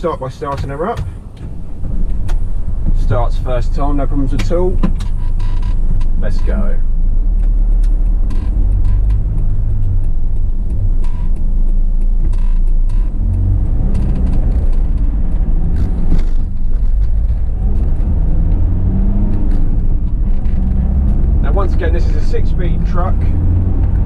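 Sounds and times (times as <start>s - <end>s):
van engine accelerating: 0.0s - 24.0s
light clicks and rattles: 0.1s - 24.0s.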